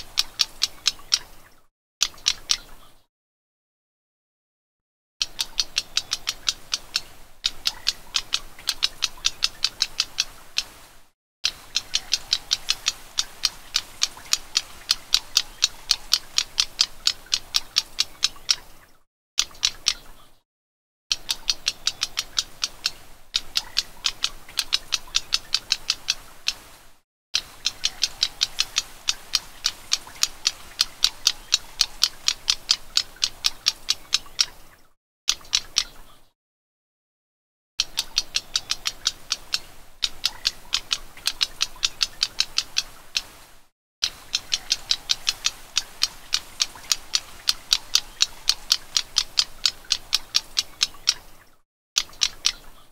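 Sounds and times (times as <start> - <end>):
bird ticking calls: 0.0 - 3.1, 5.2 - 20.4, 21.1 - 36.4, 37.8 - 52.9.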